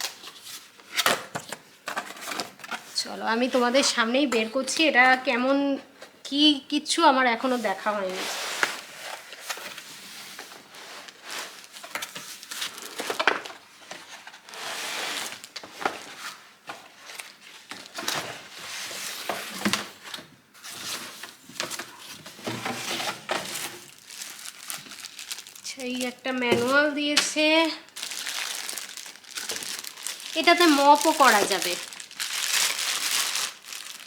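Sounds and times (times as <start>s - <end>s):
packaging rustling and crinkling: 0.0s - 3.8s, 7.6s - 34.0s.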